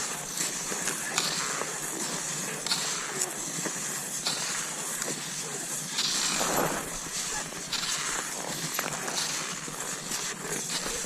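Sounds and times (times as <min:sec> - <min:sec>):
skis gliding over snow: 0:00.0 - 0:11.0.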